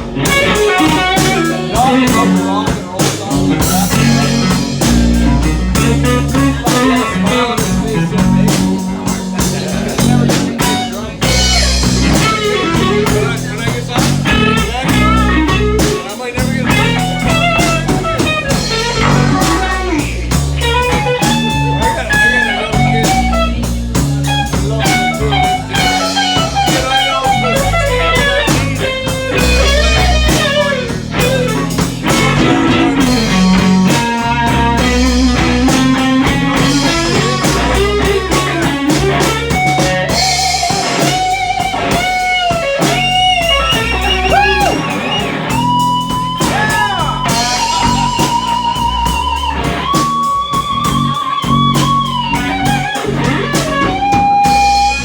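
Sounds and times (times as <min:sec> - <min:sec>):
blues band playing: 0:00.0 - 0:55.0
electric guitar bending notes: 0:00.0 - 0:55.0.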